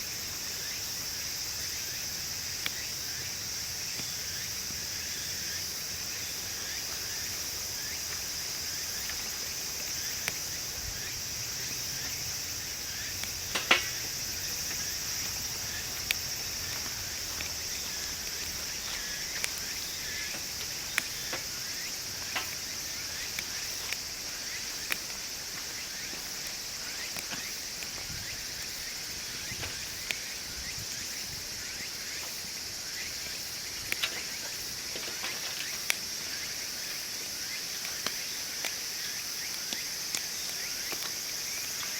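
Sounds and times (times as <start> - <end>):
insects chirring: 0.0 - 41.9
wood fire crackling and popping: 0.0 - 41.9.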